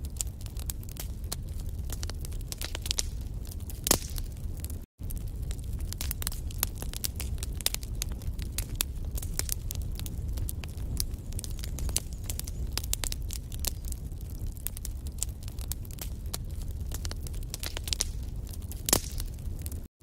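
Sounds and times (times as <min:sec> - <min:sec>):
low rumble of flames: 0:00.0 - 0:19.9
fire crackling and popping: 0:00.0 - 0:20.0.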